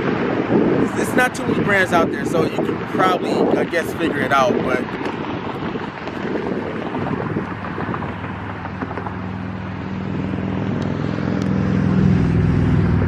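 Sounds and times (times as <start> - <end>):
vehicle engine humming: 0.0 - 13.0
wind on microphone: 0.0 - 13.0.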